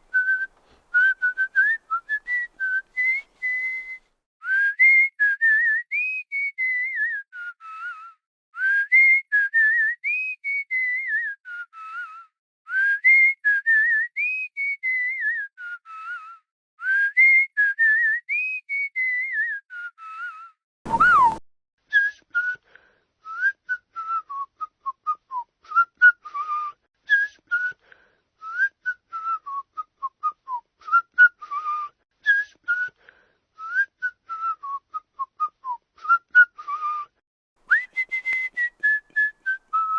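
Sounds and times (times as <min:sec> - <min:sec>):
person whistling: 0:00.1 - 0:39.9.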